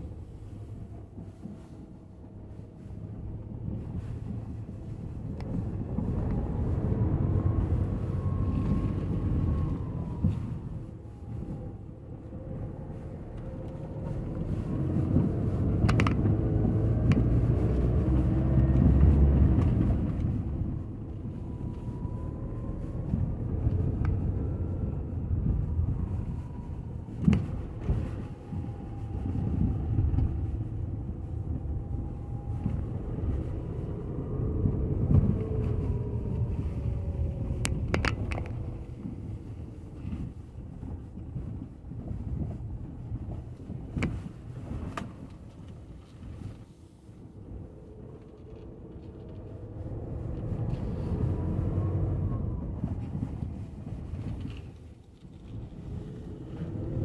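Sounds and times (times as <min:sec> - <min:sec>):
engine and tyre rumble: 0:00.0 - 0:57.0.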